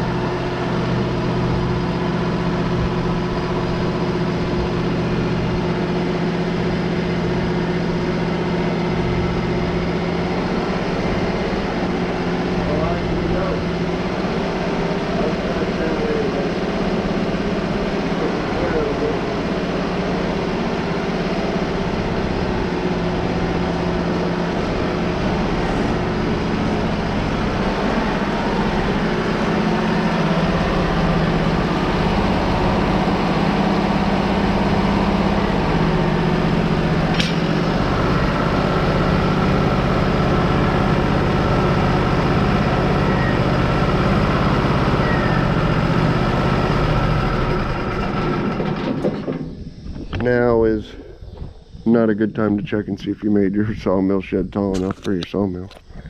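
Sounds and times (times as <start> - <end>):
high steady whine: 0.0 - 56.0
sawmill engine running: 0.0 - 56.0.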